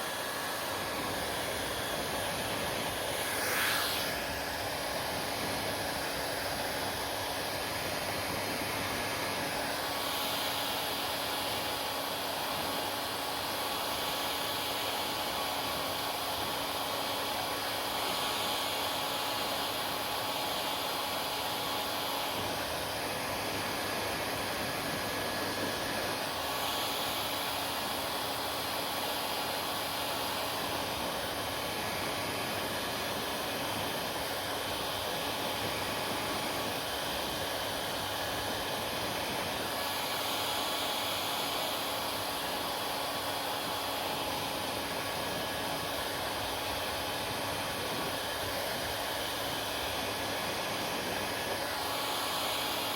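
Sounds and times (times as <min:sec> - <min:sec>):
hair dryer running: 0:00.0 - 0:52.9.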